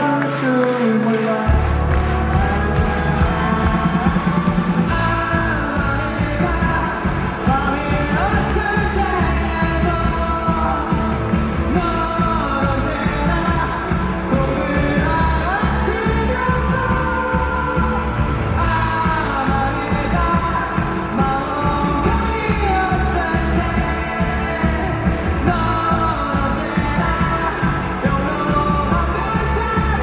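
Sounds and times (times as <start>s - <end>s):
person singing: 0.0s - 30.0s
live rock band playing: 1.5s - 30.0s.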